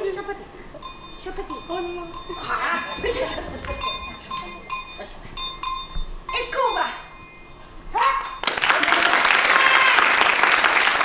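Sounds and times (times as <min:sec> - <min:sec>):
small metal bells ringing: 0:00.0 - 0:09.8.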